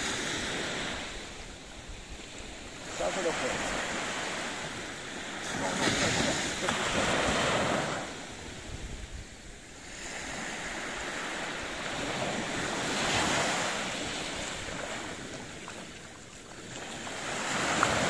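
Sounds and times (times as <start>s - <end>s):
waves washing onto beach: 0.0s - 18.0s.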